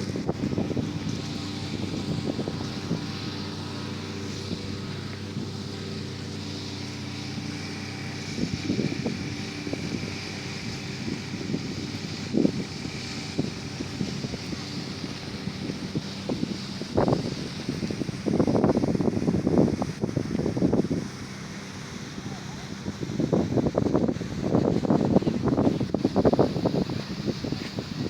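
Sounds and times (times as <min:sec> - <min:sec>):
engine droning: 0:00.0 - 0:28.0
wind buffeting microphone: 0:00.0 - 0:28.0.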